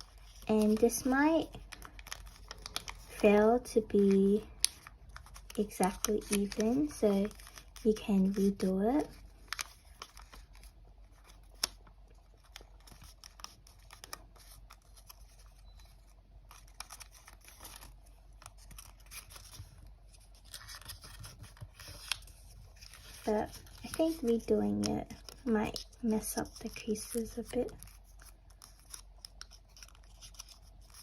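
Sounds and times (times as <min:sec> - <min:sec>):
paper crackling and rustling: 0:00.0 - 0:31.0.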